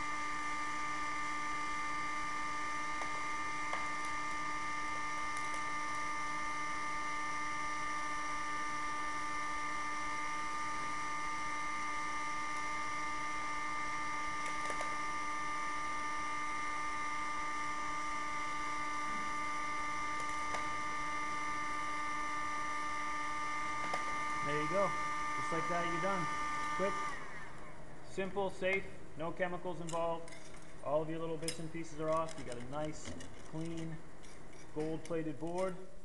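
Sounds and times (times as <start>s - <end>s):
heat gun whining hum: 0.0s - 36.0s.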